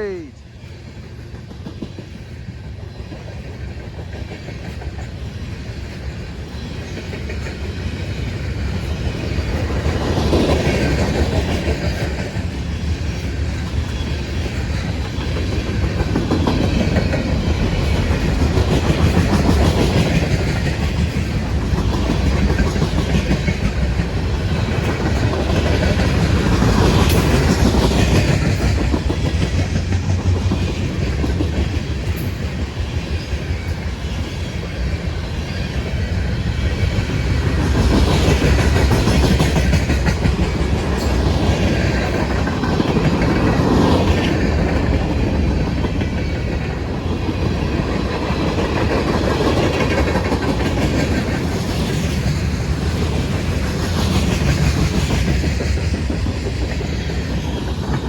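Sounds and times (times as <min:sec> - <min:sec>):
freight train rumbling past: 0:00.0 - 0:58.0
wheels clacking over rail joints: 0:01.2 - 0:36.0, 0:36.7 - 0:58.0.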